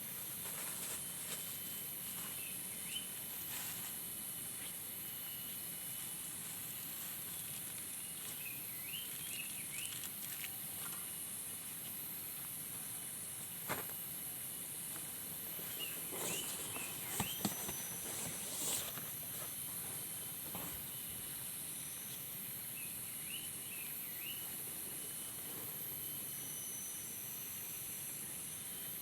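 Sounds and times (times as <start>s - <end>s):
insects humming: 0.0s - 29.0s.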